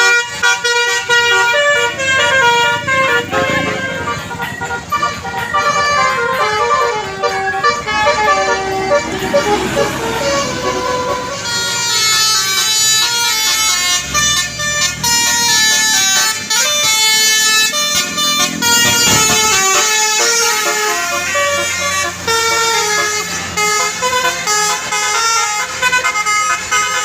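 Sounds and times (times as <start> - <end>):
multi-trumpet air horn melody: 0.0 - 27.0
vehicle engine running: 0.4 - 25.9.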